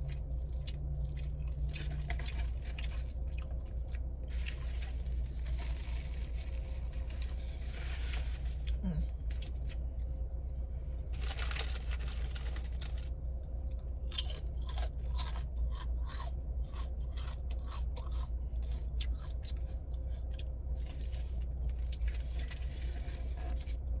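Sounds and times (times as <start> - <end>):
sandwich chewing crunches: 0.0 - 10.5, 11.2 - 23.8
low hum: 0.0 - 24.0.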